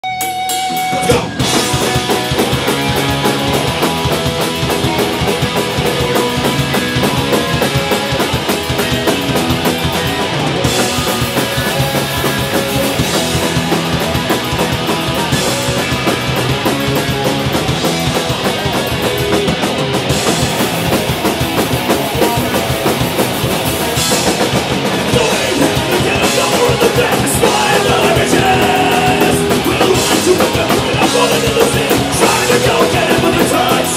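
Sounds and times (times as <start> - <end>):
bass guitar: 0.0 - 33.9
electric guitars: 0.0 - 33.9
pounding drum kit: 0.0 - 33.9.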